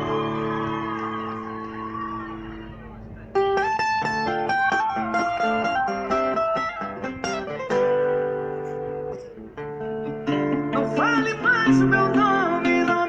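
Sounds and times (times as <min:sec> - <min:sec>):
acoustic guitar picking: 0:00.0 - 0:13.0.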